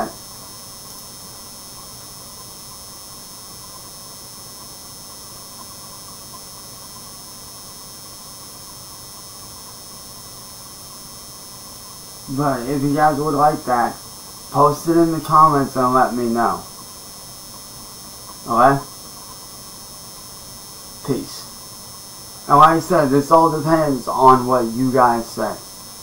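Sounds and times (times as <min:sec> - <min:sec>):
ring light electrical hum: 0:00.0 - 0:26.0
thin high whine: 0:00.0 - 0:26.0.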